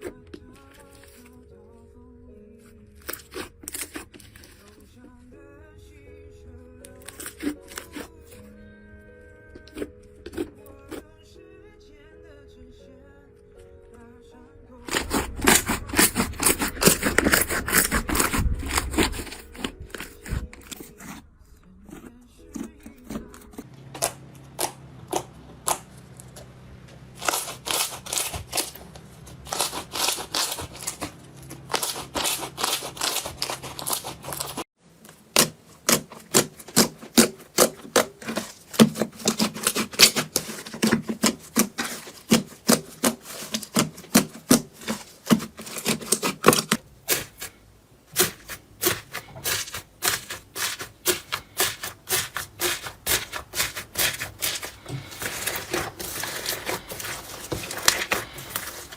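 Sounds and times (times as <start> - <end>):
low background hum: 0.0 - 58.9.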